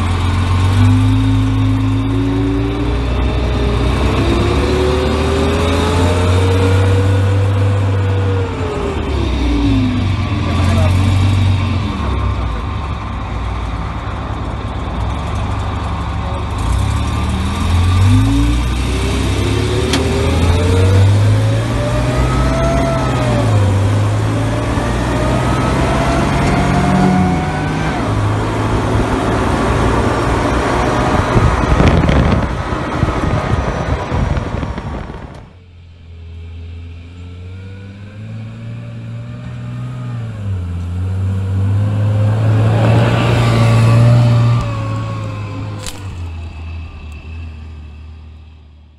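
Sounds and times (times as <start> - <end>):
armoured car engine accelerating: 0.0 - 48.9.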